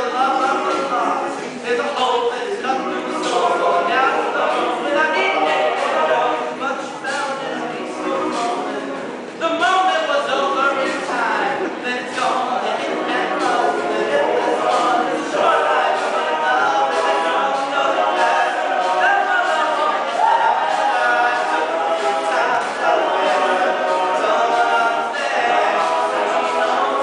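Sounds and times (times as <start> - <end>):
male a cappella group singing: 0.0 - 27.0.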